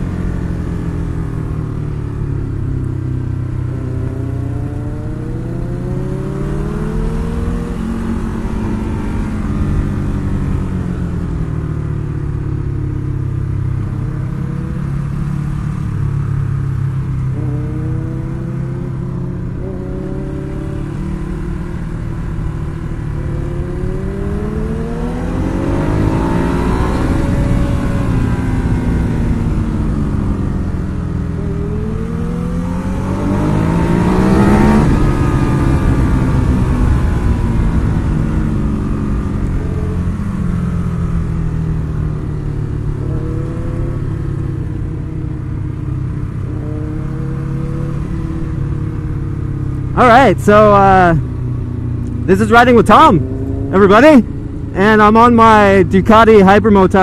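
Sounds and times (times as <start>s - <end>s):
low rush of wind: 0.0s - 57.0s
motorcycle engine revving: 0.0s - 57.0s.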